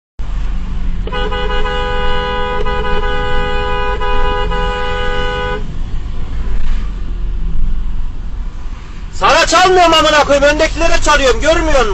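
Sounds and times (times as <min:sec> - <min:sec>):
road traffic rumble: 0:00.2 - 0:11.9.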